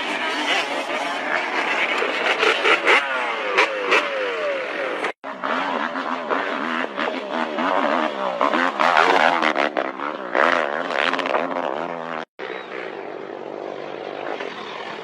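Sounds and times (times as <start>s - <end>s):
engine with wavering pitch: 0.0s - 15.0s
motorcycle engines revving: 0.0s - 15.0s.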